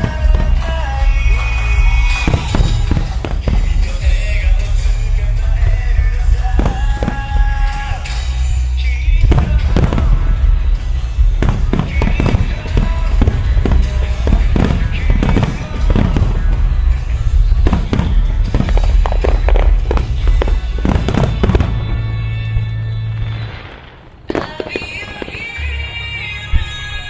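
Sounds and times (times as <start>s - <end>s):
loud show music with bass line: 0.0s - 23.6s
fireworks bursting: 0.0s - 27.0s.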